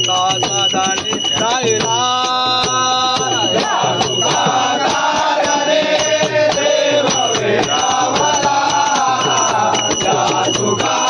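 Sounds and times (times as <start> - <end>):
high metallic ringing: 0.0 - 11.0
men singing devotional song: 0.0 - 11.0
sharp percussion strikes: 0.0 - 11.0.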